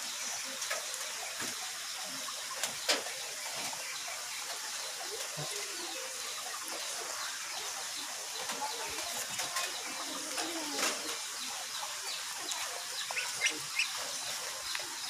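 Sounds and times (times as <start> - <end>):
water trickling over rocks: 0.0 - 15.0.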